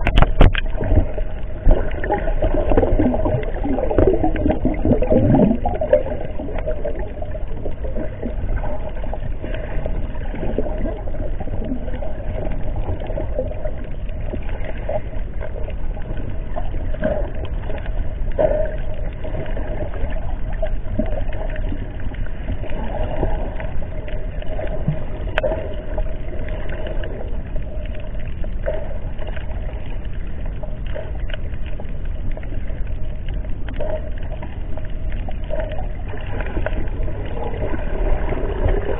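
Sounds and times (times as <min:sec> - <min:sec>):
faint constant hum: 0:00.0 - 0:38.9
small clicks and crackles: 0:00.0 - 0:38.9
underwater low rush: 0:00.0 - 0:38.9.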